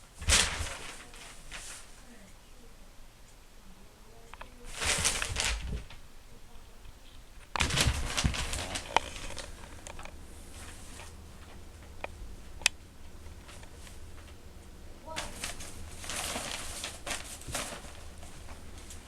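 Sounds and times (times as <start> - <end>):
newspaper rustling: 0.0 - 2.1, 4.5 - 19.0.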